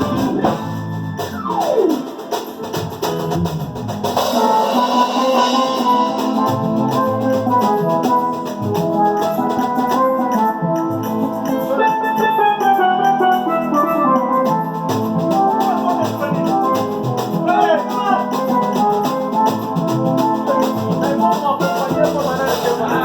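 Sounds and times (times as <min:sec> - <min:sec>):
music with drum beat: 0:00.0 - 0:23.0.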